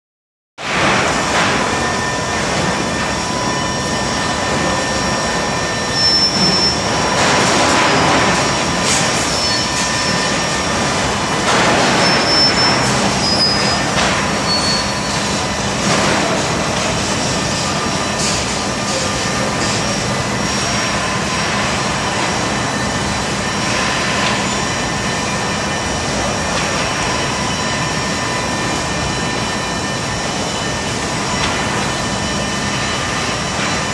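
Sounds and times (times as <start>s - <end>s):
machine drone with whining tones: 0.6s - 33.9s.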